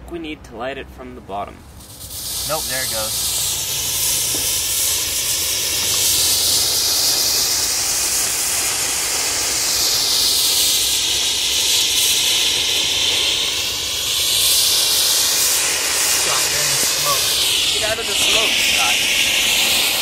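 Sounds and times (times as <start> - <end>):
rocket motor exhaust hissing: 1.4 - 20.0.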